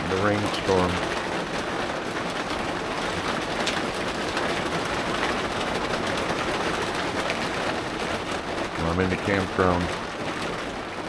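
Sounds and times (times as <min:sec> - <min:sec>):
hard rain on roof: 0:00.0 - 0:11.0.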